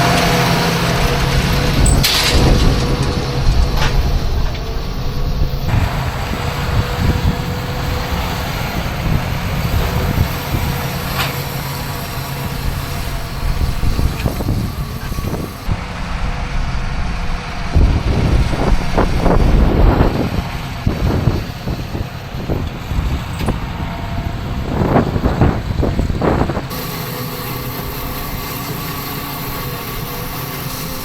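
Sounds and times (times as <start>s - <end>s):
tractor engine rumbling: 0.0s - 31.0s.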